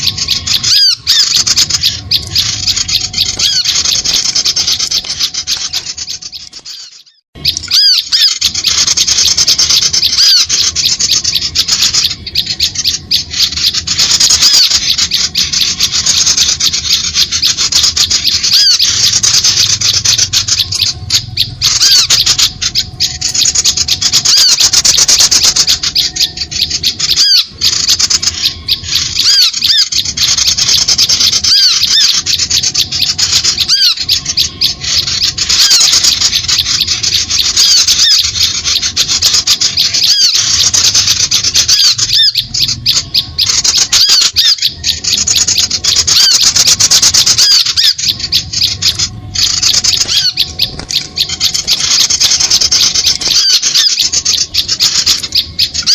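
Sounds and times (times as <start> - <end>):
small birds chattering and squeaking: 0.0 - 55.9.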